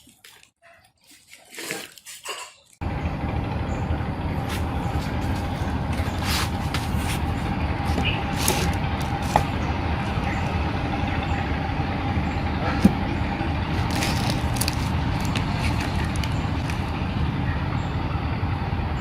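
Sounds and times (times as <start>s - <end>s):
machine noise with whine: 2.8s - 19.0s.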